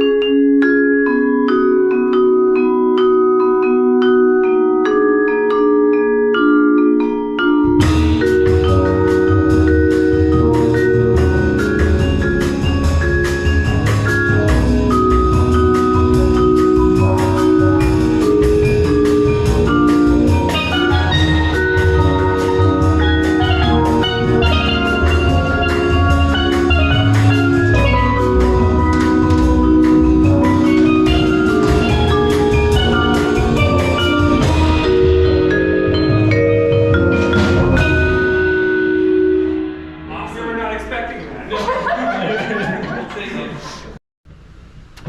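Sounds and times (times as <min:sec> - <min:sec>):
mallet percussion music with beat: 0:00.0 - 0:41.0.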